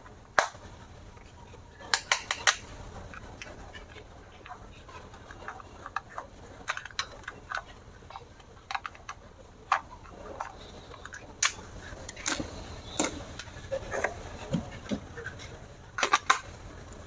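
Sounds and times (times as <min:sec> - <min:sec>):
hard plastic clicking: 0:01.9 - 0:17.0.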